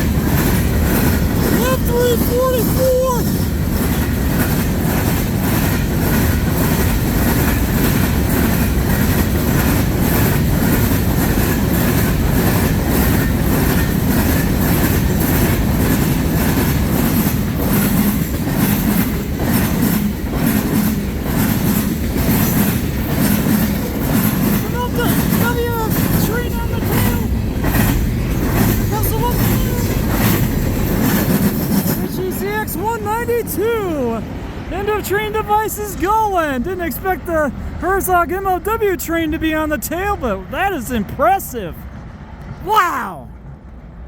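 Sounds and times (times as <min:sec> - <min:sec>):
wheels clacking over rail joints: 0:00.0 - 0:35.7
freight train rumbling past: 0:00.0 - 0:44.0.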